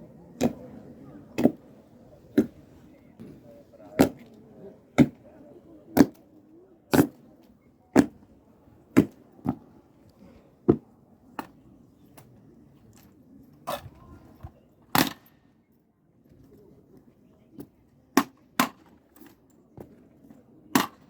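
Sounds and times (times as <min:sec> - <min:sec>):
faint background murmur: 0:00.0 - 0:21.0.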